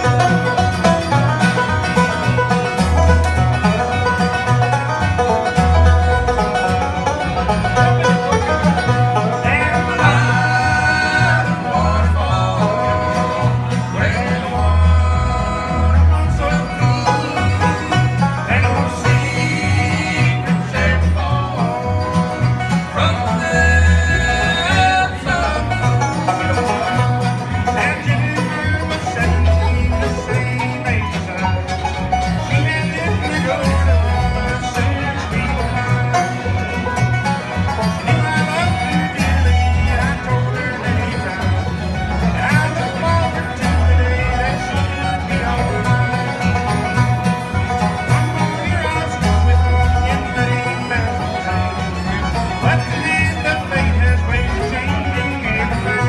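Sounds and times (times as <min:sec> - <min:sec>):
bluegrass band playing: 0:00.0 - 0:56.0.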